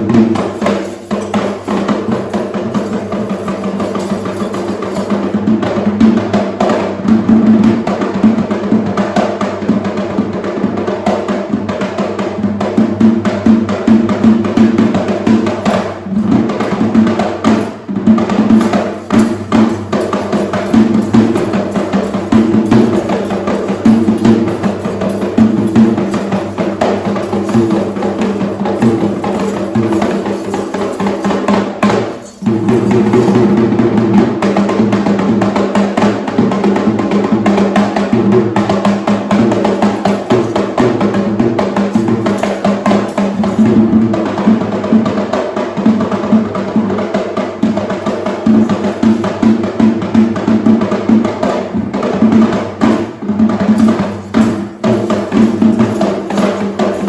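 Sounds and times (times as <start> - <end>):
drums in fast dense rhythm: 0.0 - 57.0.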